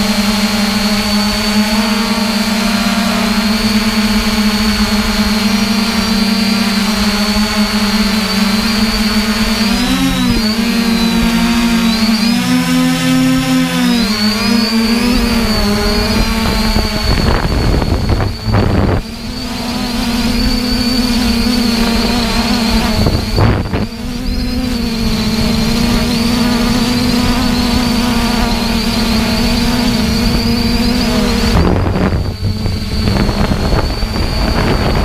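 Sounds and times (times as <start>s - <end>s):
quadcopter motors buzzing: 0.0s - 35.0s
thin high whine: 0.0s - 35.0s
wind gusts on microphone: 1.0s - 35.0s.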